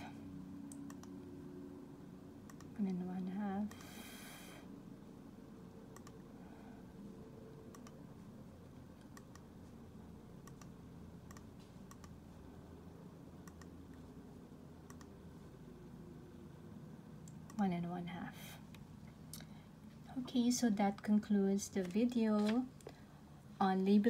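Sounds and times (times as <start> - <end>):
faint low room hum: 0.0 - 24.0.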